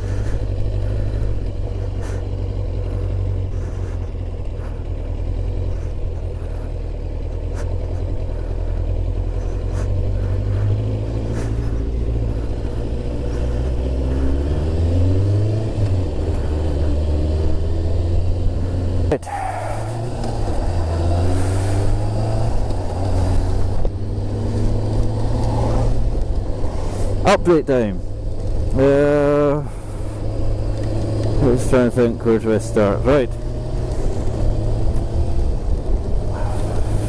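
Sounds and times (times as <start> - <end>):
motorcycle engine accelerating: 0.0 - 37.0
wind and road noise: 0.0 - 37.0.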